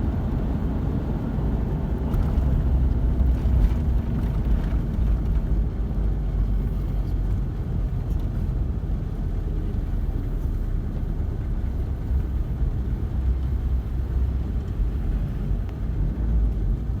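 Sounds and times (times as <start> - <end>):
vehicle driving on road rumble: 0.0 - 17.0.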